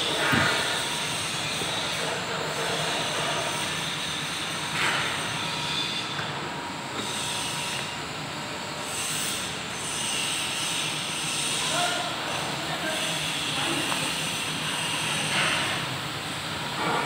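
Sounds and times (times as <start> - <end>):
workshop hiss and clatter: 0.0 - 17.0.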